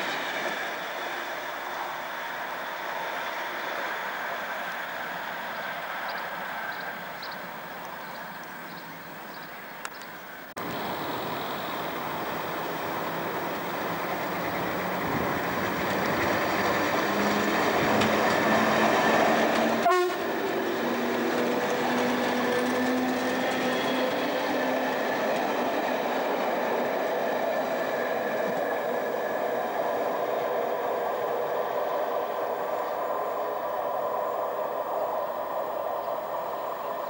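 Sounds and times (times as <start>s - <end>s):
train wheels rumbling on track: 0.0s - 8.7s, 10.6s - 37.0s.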